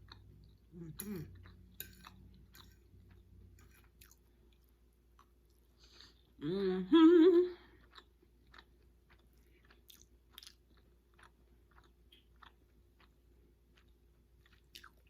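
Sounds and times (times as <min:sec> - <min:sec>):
person chewing food: 0:00.0 - 0:06.4, 0:07.6 - 0:15.0.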